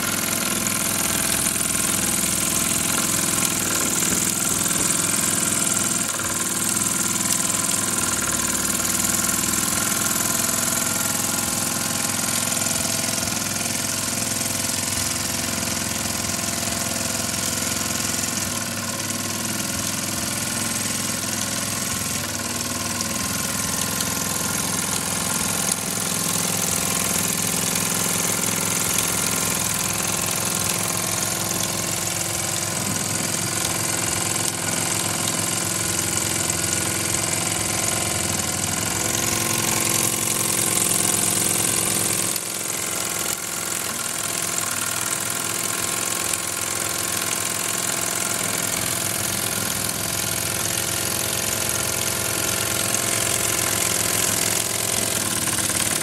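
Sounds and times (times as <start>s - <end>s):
steam engine mechanical beat: 0.0s - 56.0s.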